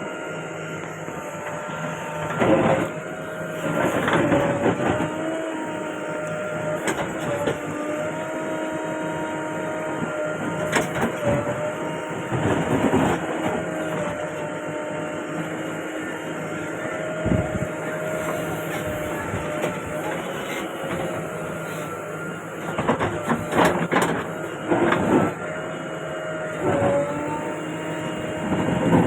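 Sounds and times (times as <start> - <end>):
backhoe engine whine: 0.0 - 29.0.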